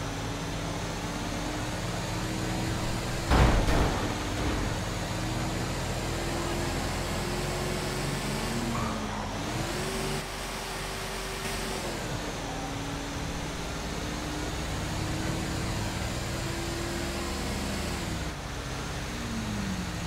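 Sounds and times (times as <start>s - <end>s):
heavy truck engine running: 0.0s - 20.0s.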